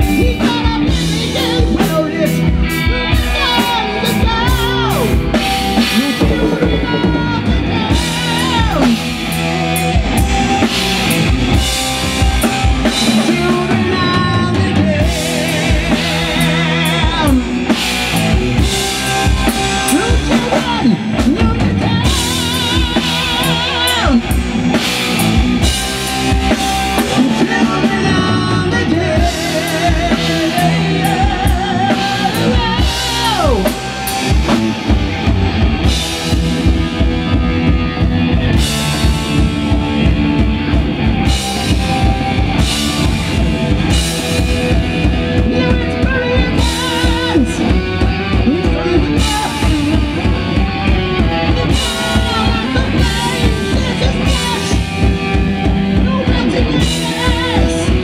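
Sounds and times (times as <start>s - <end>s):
bass guitar: 0.0s - 58.0s
distorted electric guitars: 0.0s - 58.0s
high wavering lead guitar line: 0.0s - 58.0s
pounding drum kit: 0.0s - 58.0s.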